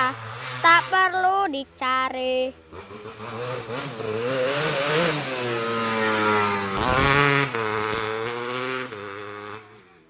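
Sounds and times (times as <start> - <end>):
motorcycle engine revving: 0.0 - 1.2, 2.6 - 10.0.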